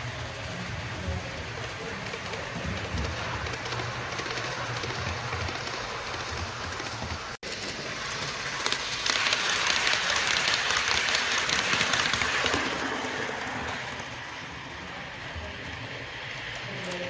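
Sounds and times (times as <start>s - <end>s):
model train wheels clattering: 0.0s - 14.0s.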